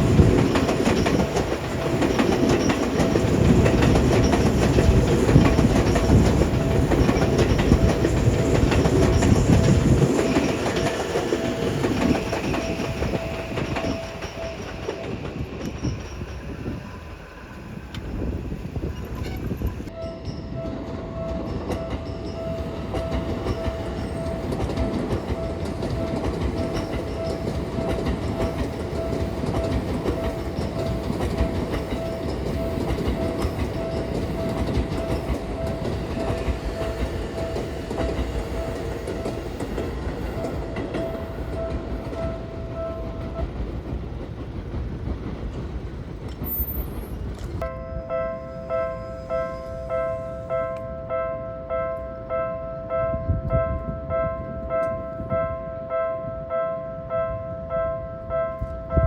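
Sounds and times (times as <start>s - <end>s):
railroad crossing warning bell: 0.0s - 18.3s, 19.1s - 44.0s, 46.4s - 59.0s
train wheels clattering on rails: 0.0s - 47.8s.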